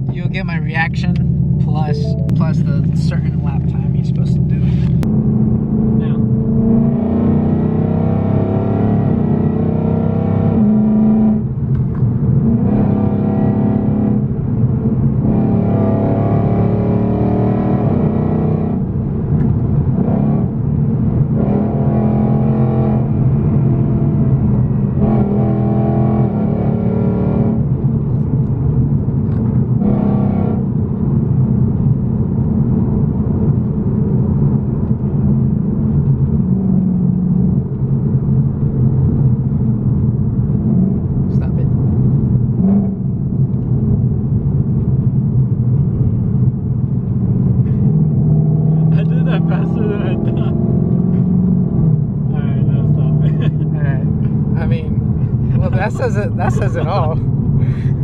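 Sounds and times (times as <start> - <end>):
car engine accelerating hard: 0.1 - 58.0.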